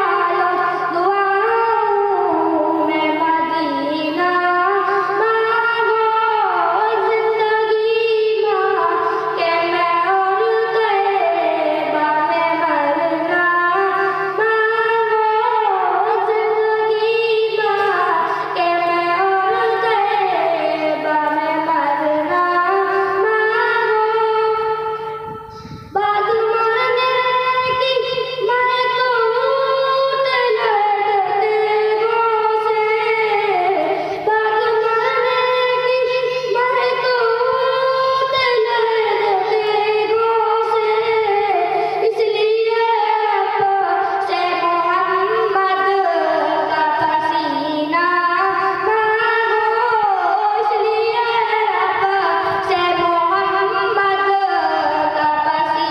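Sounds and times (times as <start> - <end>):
boy singing into a microphone: 0.0 - 55.9.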